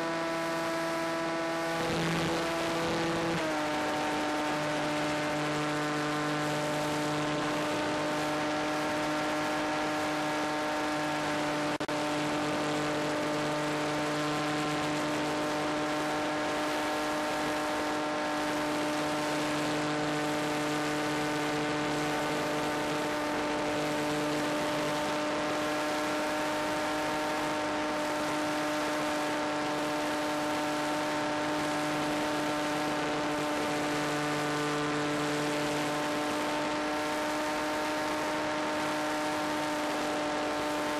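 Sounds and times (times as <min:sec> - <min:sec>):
model plane motor whine: 0:00.0 - 0:40.9.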